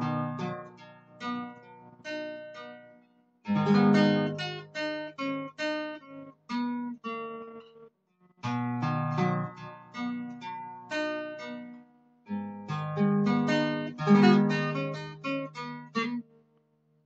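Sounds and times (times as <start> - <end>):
acoustic guitar strumming and picking: 0.0 - 16.4.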